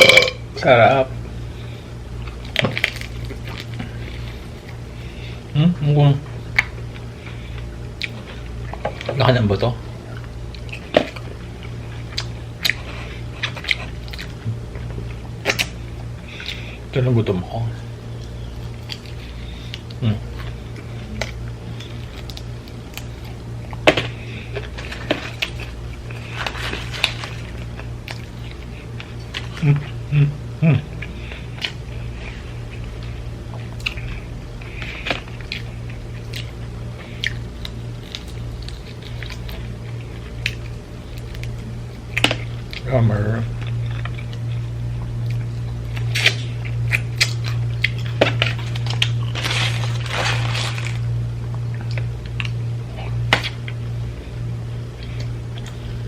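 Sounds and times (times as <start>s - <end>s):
steady low hum: 0.0s - 56.0s
crackly chewing: 1.6s - 5.5s, 6.4s - 16.9s, 17.9s - 56.0s.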